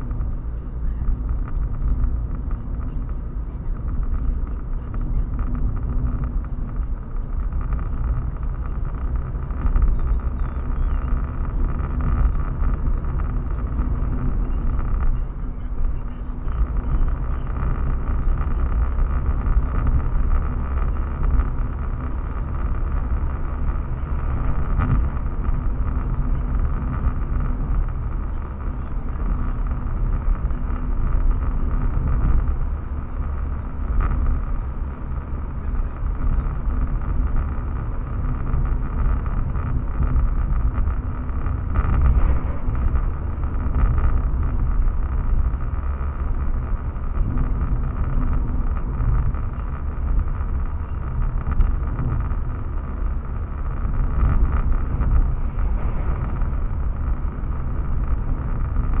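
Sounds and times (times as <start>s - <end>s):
car driving on road: 0.0s - 59.0s.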